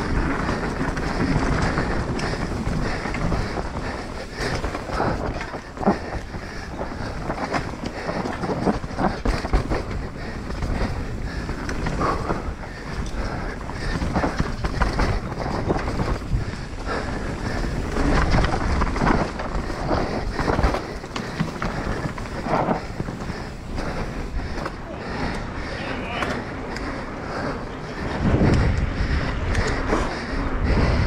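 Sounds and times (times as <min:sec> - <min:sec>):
bike rattling over bumps: 0:00.0 - 0:31.0
bike tyres rumbling over dirt: 0:00.0 - 0:31.0
wind buffeting microphone: 0:00.0 - 0:31.0.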